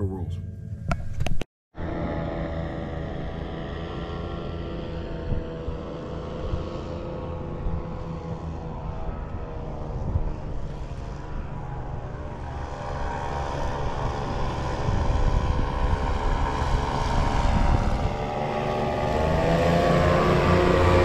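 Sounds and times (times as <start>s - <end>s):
engine and propeller droning: 0.0s - 21.0s.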